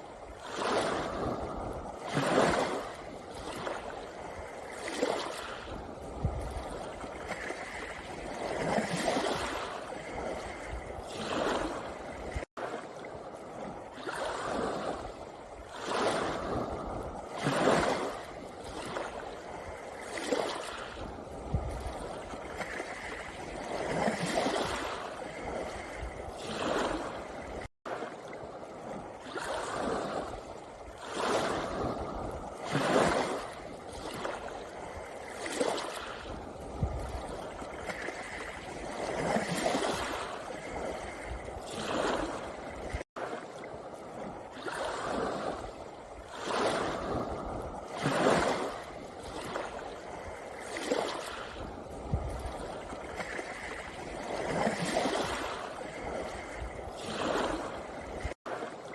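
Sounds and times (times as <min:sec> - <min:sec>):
waves washing over pebbles: 0:00.0 - 0:58.9.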